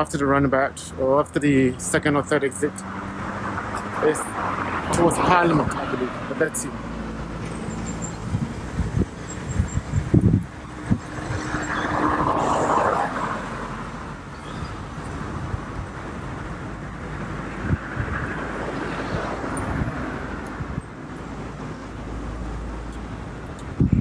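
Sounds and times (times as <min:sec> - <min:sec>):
road traffic rumble: 0:00.0 - 0:24.0
vehicles passing by: 0:00.0 - 0:24.0.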